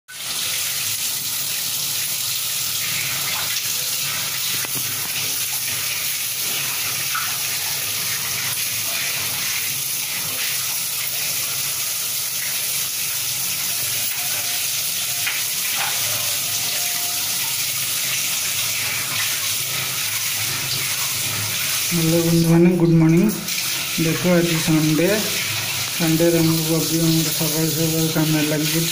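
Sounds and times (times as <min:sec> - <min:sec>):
tap water running into sink: 0:00.1 - 0:28.9
hands washing under water: 0:02.9 - 0:28.9.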